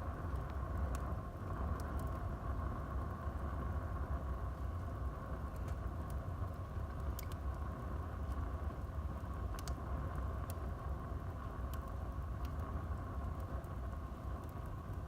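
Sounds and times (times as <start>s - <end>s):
burning wood crackling and popping: 0.0s - 15.0s
fire flames rushing: 0.0s - 15.0s.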